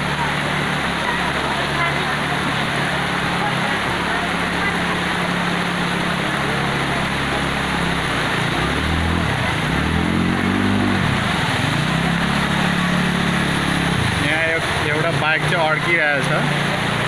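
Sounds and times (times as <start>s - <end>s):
floodwater rushing: 0.0s - 17.0s
motorcycle engines running: 0.0s - 17.0s.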